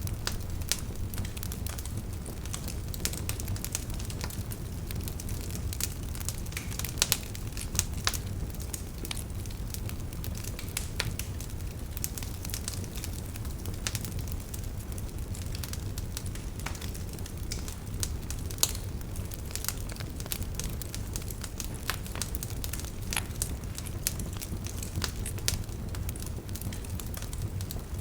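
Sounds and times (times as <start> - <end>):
fire crackling and popping: 0.0 - 28.0
wood fire burning: 0.0 - 28.0.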